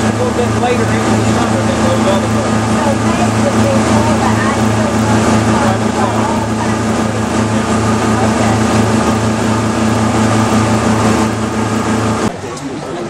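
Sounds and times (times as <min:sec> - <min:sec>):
boat engine humming: 0:00.0 - 0:13.0
rushing water noise: 0:00.0 - 0:13.0.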